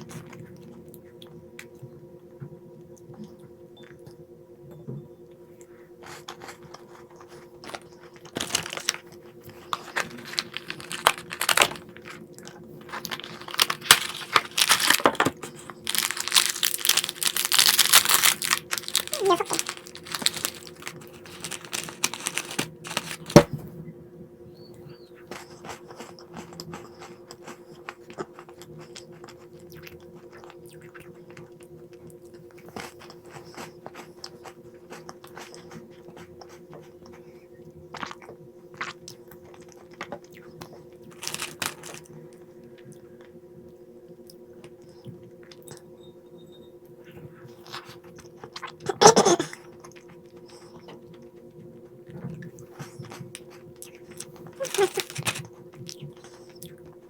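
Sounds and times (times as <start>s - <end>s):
steady low hum: 0.0s - 57.0s
snacks crunching: 5.6s - 23.6s, 25.2s - 43.4s, 47.4s - 57.0s.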